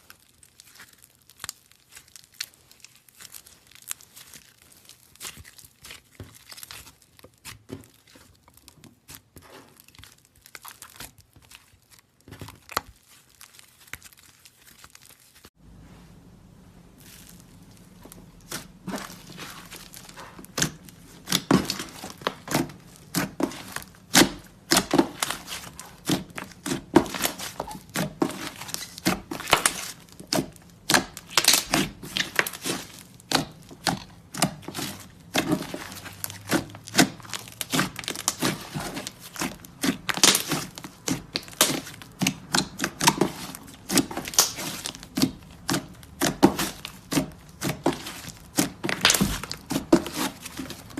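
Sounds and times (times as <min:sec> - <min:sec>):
slime popping and crackling: 0:00.0 - 0:15.5, 0:17.0 - 0:50.9.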